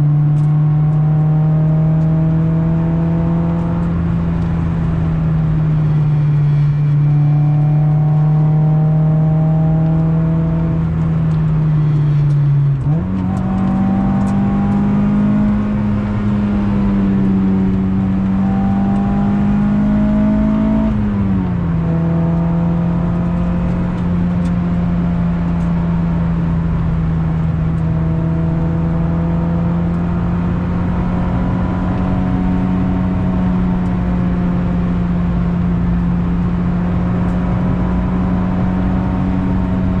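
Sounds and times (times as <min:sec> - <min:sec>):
car engine revving under load: 0:00.0 - 0:40.0.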